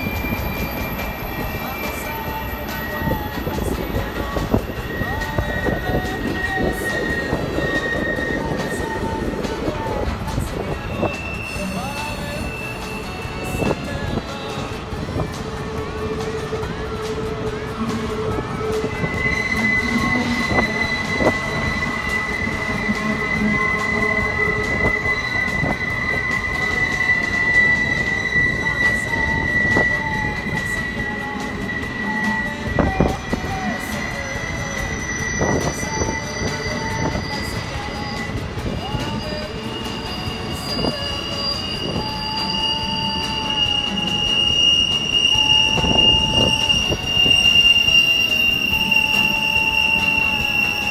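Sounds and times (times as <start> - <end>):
high-pitched wheel squeal: 0.0 - 50.9
train wheels rumbling on rails: 0.0 - 50.9.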